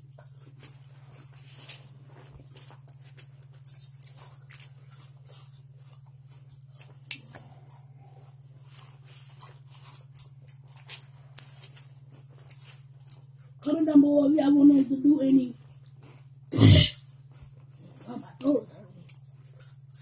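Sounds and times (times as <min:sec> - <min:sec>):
chips crunching and chewing: 0:00.0 - 0:13.7, 0:15.8 - 0:20.0
steady low hum: 0:00.0 - 0:20.0.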